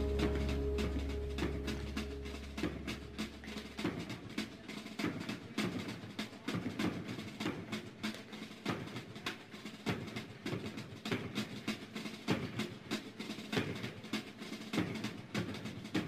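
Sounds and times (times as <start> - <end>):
snare drum strikes and rolls: 0.0 - 16.0.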